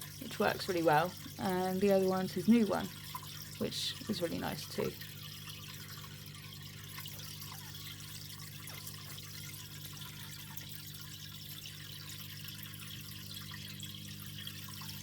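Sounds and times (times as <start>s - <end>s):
filter motors humming: 0.0s - 15.0s
water splashing and trickling: 0.0s - 15.0s.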